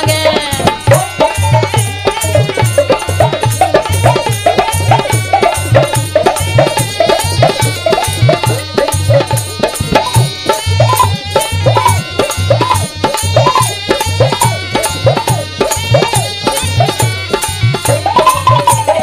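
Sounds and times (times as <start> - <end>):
fast hand-drum rhythm: 0.0 - 19.0
reed pipe melody: 0.0 - 19.0.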